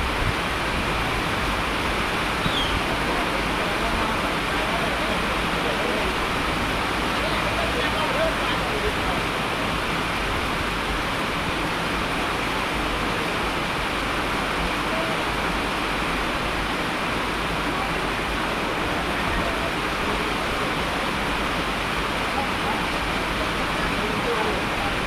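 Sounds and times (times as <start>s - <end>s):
heavy rain hiss: 0.0s - 25.0s.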